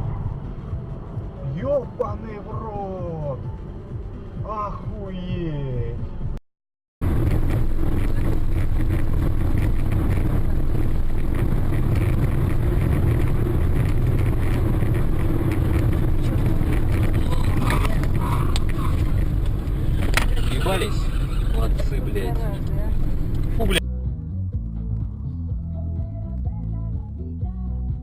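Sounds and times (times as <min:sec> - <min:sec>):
car engine and road rumble: 0:00.0 - 0:06.4, 0:07.0 - 0:28.0.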